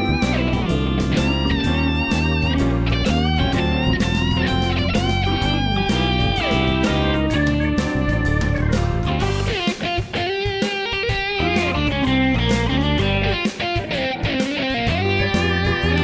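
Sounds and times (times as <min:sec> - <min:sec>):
bass line: 0:00.0 - 0:09.6, 0:11.4 - 0:13.4, 0:14.8 - 0:16.0
electric guitar tune: 0:00.0 - 0:16.0.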